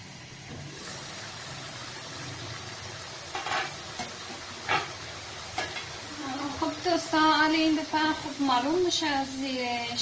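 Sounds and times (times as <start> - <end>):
vegetables simmering and sizzling: 0.0 - 10.0.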